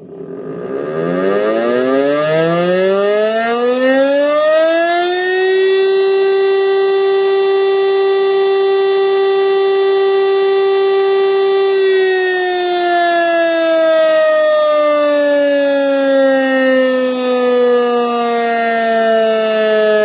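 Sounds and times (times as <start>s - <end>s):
electric motor siren: 0.0s - 20.0s.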